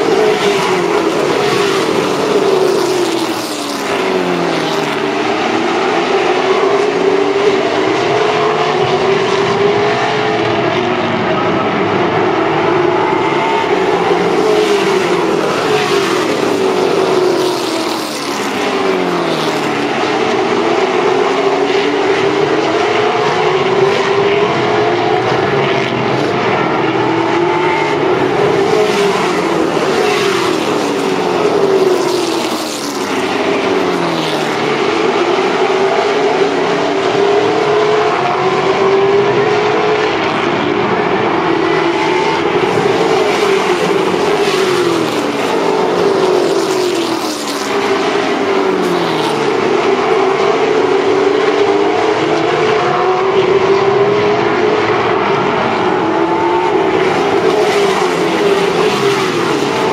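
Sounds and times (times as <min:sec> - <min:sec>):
race cars at full throttle: 0:00.0 - 0:59.9.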